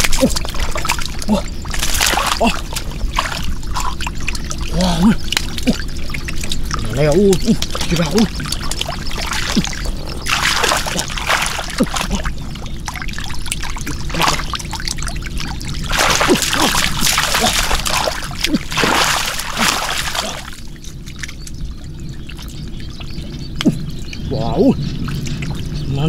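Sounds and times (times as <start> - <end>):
water splashing and pouring: 0.0 - 21.3.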